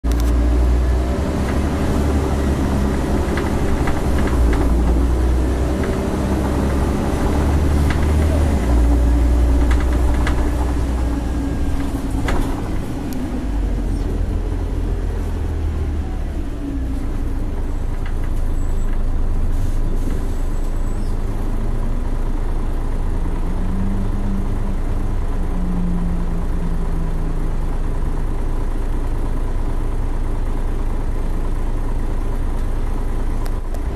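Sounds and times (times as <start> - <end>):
bus diesel engine rumble: 0.0 - 33.9.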